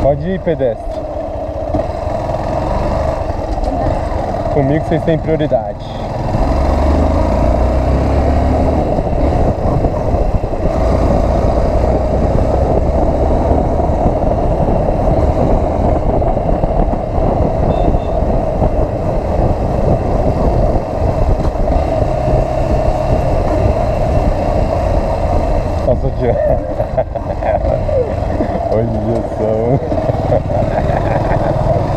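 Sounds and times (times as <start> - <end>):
motorcycle engine running: 0.0 - 31.9
wind rush on microphone: 0.0 - 31.9.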